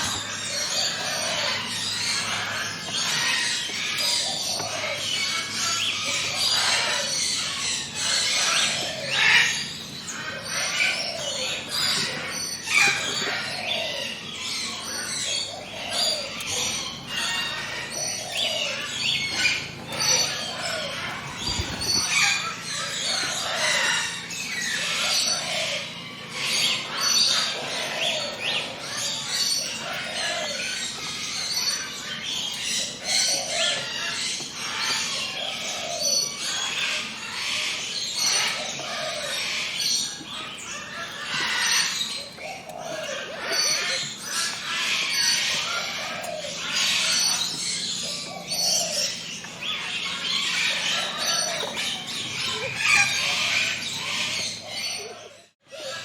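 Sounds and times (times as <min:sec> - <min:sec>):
chorus of birds chirping: 0:00.0 - 0:56.0.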